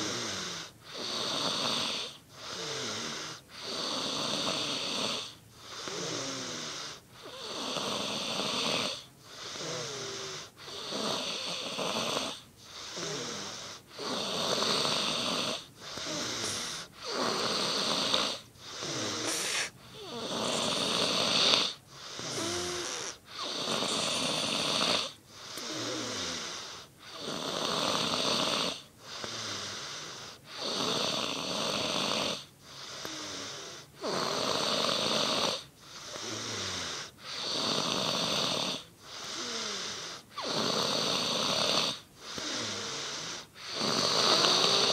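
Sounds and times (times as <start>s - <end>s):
person snoring: 0.0s - 44.9s.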